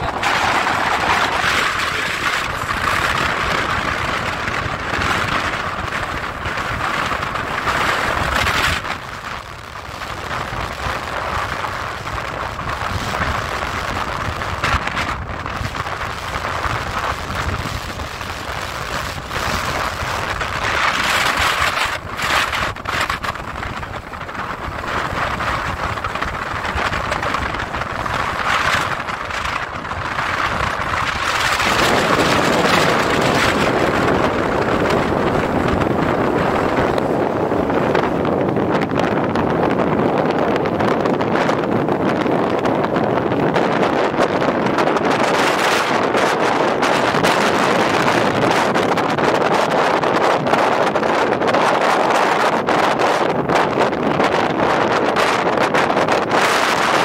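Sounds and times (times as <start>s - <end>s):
heavy surf breaking: 0.0s - 57.0s
strong storm wind gusts: 0.0s - 57.0s.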